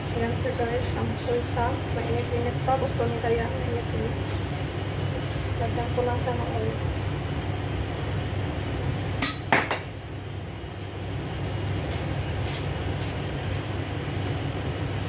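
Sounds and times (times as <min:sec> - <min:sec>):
range hood fan humming: 0:00.0 - 0:15.0.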